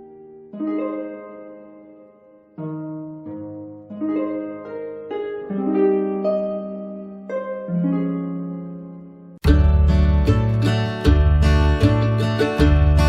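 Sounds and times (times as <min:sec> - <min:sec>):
gently plucked music: 0:00.0 - 0:13.0
strummed music: 0:00.0 - 0:13.0.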